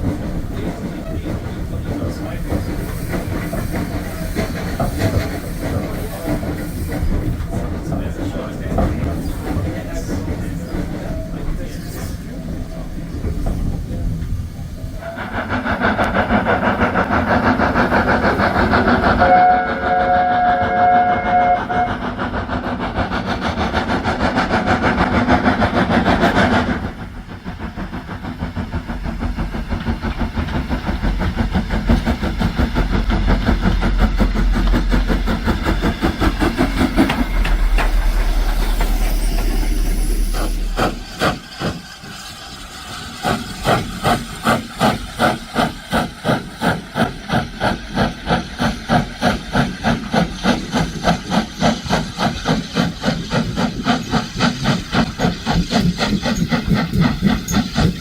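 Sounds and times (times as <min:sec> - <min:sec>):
locomotive exhaust chuffing: 0:00.0 - 0:58.0
steam locomotive hissing: 0:00.0 - 0:58.0.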